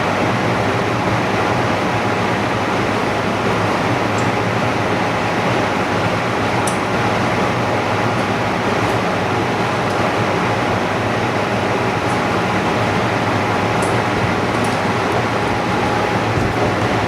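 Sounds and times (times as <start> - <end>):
machinery running with whine: 0.0 - 17.0.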